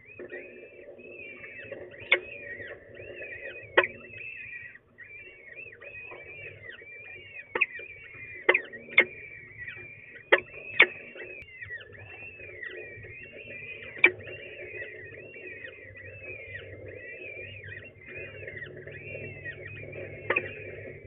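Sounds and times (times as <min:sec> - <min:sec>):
falcon chicks cheeping: 0:00.1 - 0:21.0.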